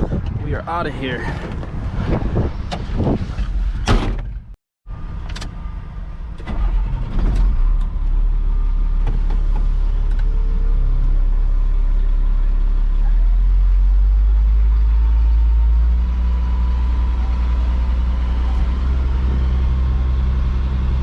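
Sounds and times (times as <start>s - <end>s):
tow truck engine rumbling: 1.2s - 21.0s.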